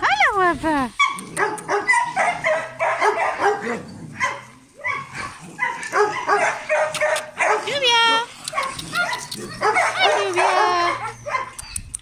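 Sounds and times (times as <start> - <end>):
dogs yelping: 1.0 - 12.0.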